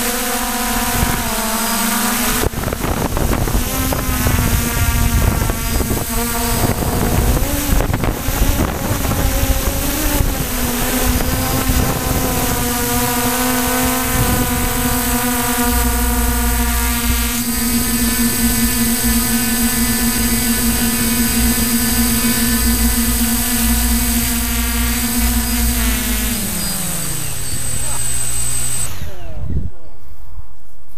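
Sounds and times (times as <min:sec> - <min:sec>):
drone motors and propellers buzzing: 0:00.0 - 0:30.9.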